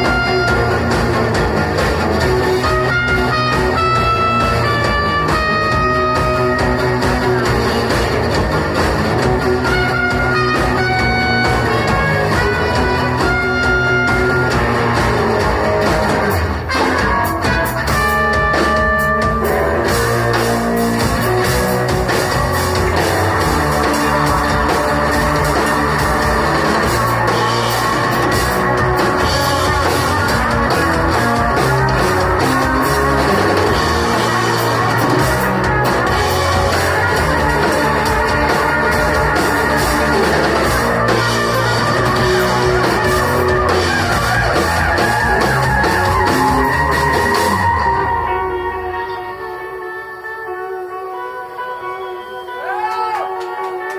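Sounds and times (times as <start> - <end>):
rock band playing live: 0.0 - 53.9.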